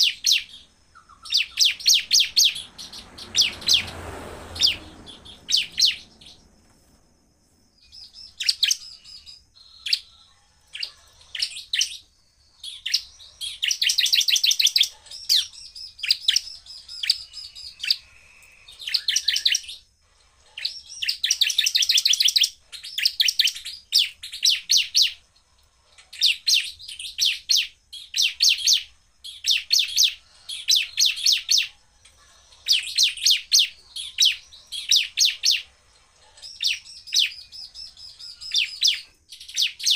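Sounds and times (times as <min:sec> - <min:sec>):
bird singing rattling trills: 0:00.0 - 0:39.9.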